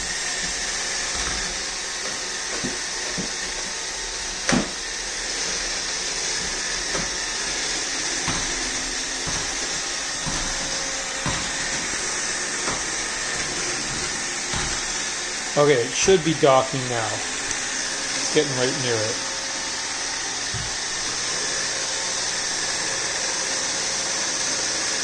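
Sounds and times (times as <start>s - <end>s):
robot vacuum whirring: 0.0s - 25.0s.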